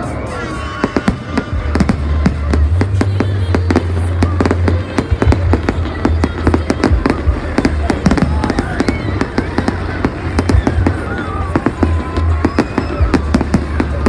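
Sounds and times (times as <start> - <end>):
fireworks bangs and cracks: 0.0 - 14.0.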